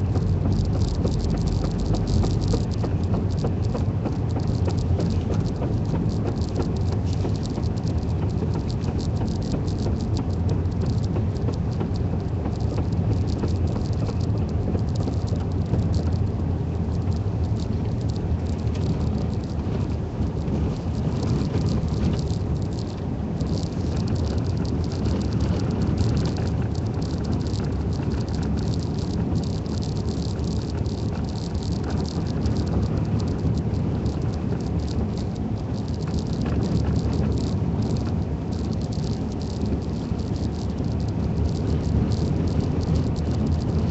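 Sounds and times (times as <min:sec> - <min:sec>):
engine and road rumble: 0:00.0 - 0:43.9
tires crackling over snow: 0:00.0 - 0:43.9.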